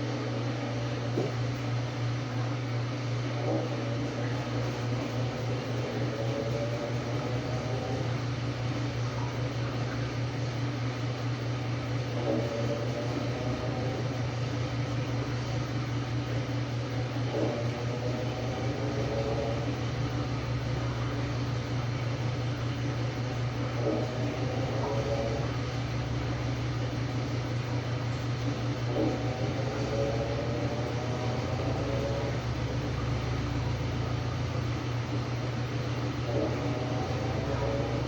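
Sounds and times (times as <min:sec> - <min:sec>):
washing machine motor hum: 0:00.0 - 0:38.0.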